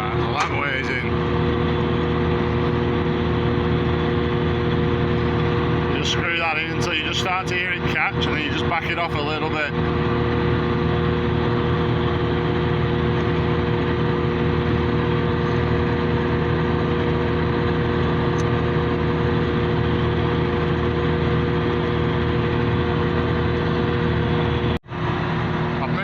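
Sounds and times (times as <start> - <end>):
harvester engine idling: 0.0 - 26.0.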